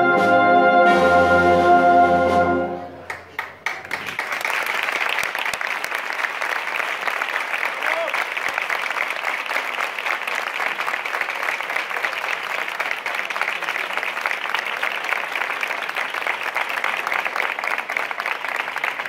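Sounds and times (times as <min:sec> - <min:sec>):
crowd applauding: 0:02.9 - 0:19.0.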